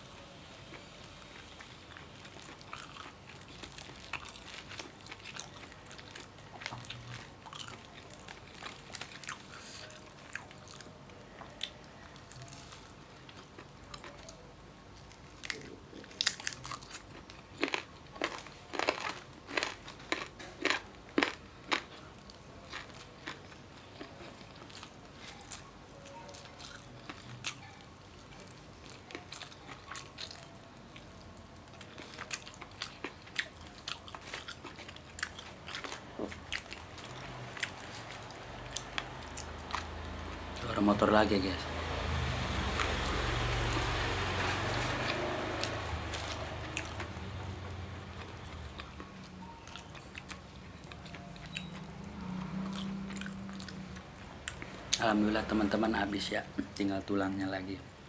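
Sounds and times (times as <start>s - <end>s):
chewing and biting food: 0.7s - 40.9s, 41.7s - 55.9s.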